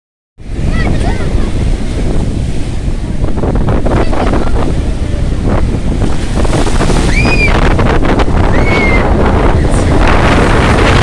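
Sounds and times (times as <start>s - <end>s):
surf breaking on beach: 0.4s - 11.0s
wind buffeting microphone: 0.4s - 11.0s.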